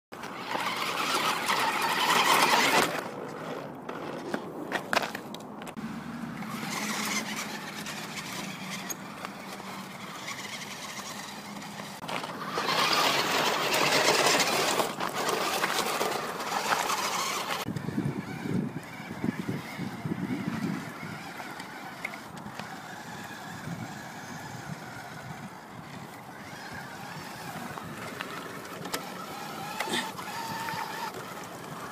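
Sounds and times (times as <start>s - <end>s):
toy car electric motor whining: 0.2s - 3.6s, 5.8s - 31.9s.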